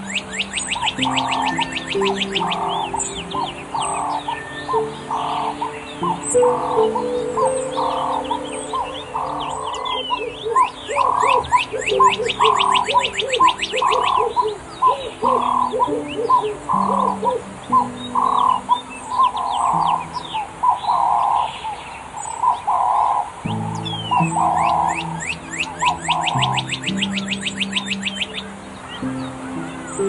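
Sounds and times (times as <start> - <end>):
bird trill of rising notes: 0.0 - 30.0
birds chirping and calling: 0.0 - 30.0
lower bird call: 0.0 - 30.0
soft ambient music: 0.0 - 30.0.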